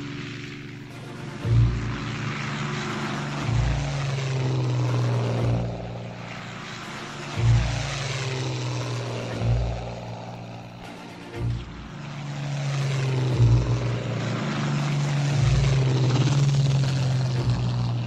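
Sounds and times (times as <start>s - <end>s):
propeller aircraft engine rushing: 0.0s - 18.0s.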